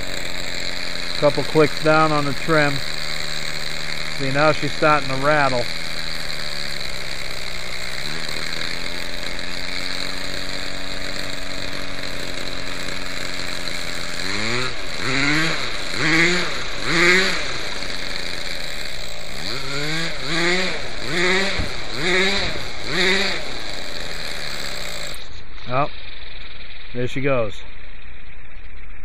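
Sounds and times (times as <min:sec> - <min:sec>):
small glow engine surging: 0:00.0 - 0:29.0.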